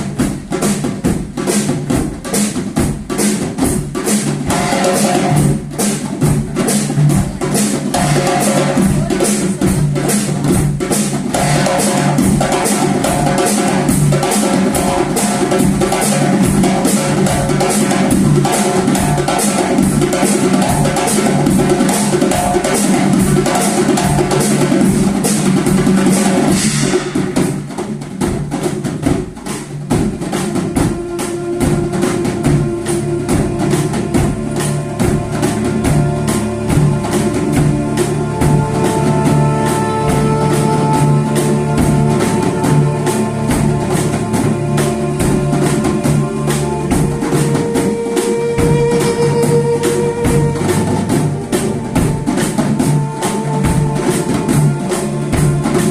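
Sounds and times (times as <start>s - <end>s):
hand drums playing fast rhythm: 0.0s - 55.9s.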